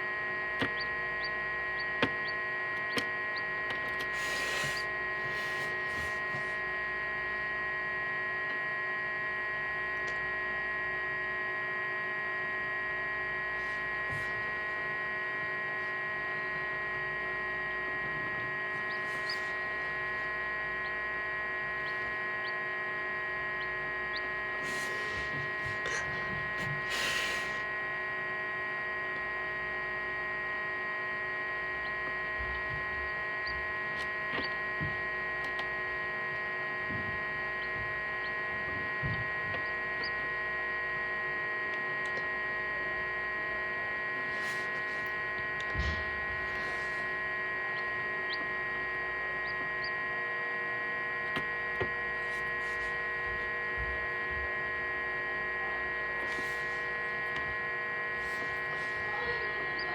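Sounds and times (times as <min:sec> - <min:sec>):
electric fan motor humming: 0:00.0 - 0:59.9.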